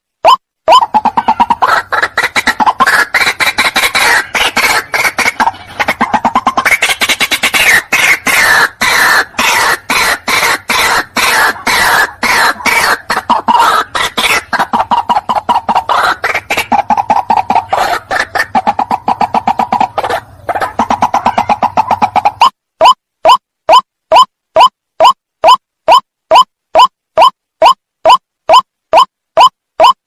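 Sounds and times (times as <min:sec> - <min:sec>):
bird harsh repeated calls: 0:00.3 - 0:30.0.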